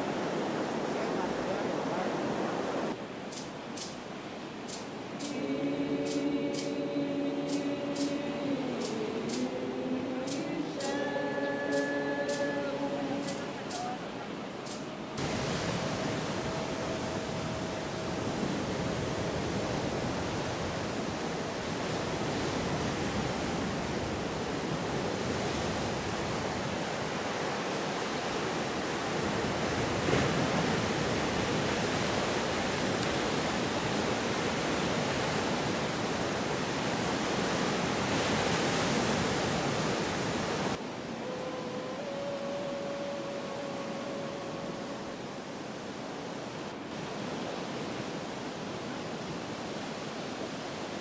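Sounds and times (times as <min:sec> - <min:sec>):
ocean waves breaking on beach: 0:00.0 - 0:51.0.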